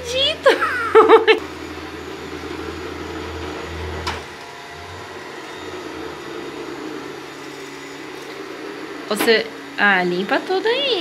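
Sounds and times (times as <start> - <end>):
robot vacuum cleaner whirring: 0.0 - 11.0.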